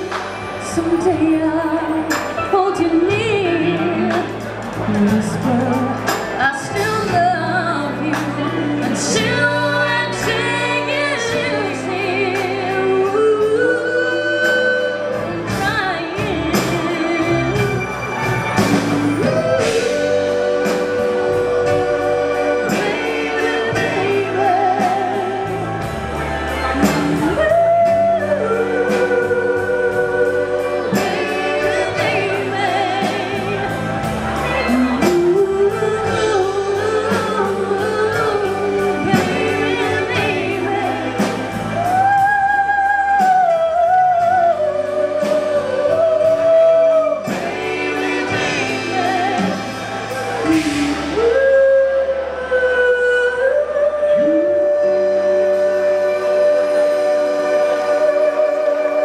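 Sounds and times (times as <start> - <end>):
live band music: 0.0 - 59.0.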